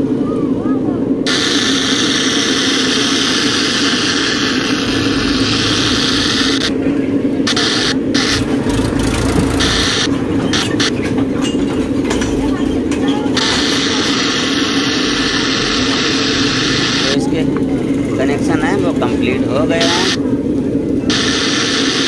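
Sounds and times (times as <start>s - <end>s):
low hum: 0.0s - 22.0s
radio static hiss: 1.2s - 11.1s, 13.2s - 22.0s.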